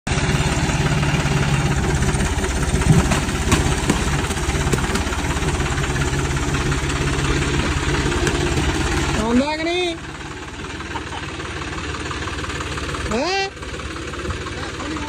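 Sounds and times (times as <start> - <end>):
tractor diesel engine idling: 0.1 - 15.0.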